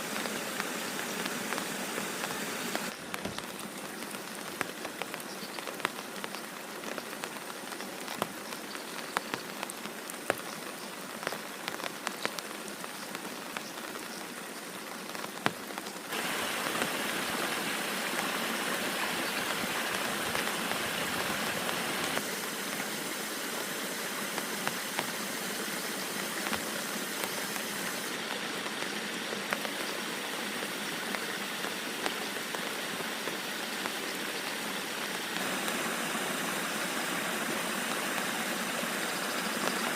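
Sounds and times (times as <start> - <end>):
heavy rain falling: 0.0 - 39.9
raindrops ticking on a surface: 0.0 - 39.9.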